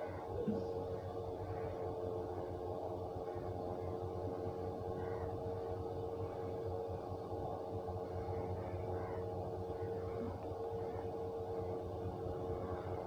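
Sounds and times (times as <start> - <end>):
constant mid-pitched tone: 0.0 - 13.0
steady background hum: 0.0 - 13.0.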